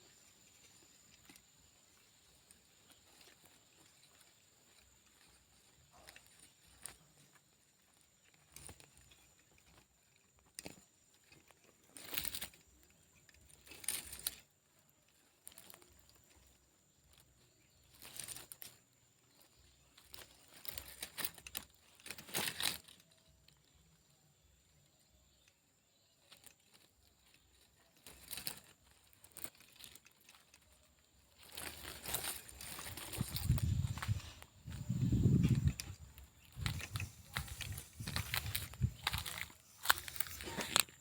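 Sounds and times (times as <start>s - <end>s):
leaves and twigs rustling: 0.0s - 41.0s.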